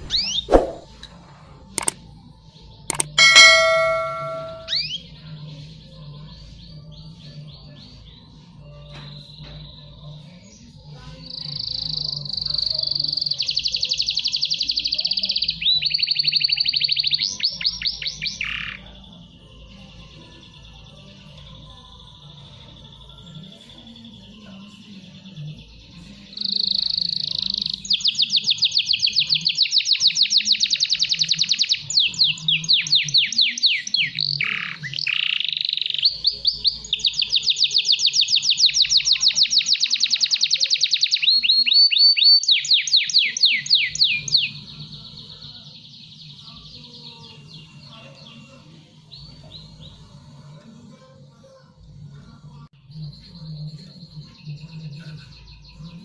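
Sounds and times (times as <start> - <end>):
quiet twittering song: 0.0 - 56.0
canary singing trills: 2.7 - 50.2.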